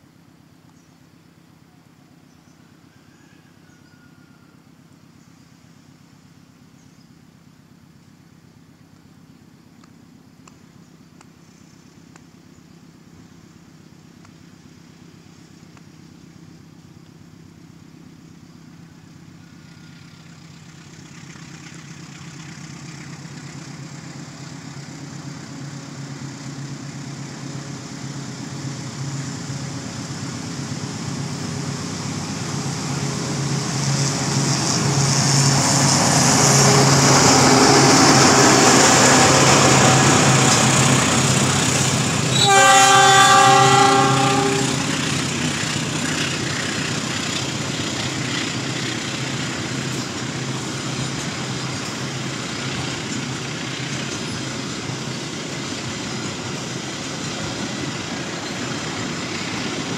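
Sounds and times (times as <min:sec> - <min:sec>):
diesel locomotive engine hum: 0:00.0 - 0:59.9.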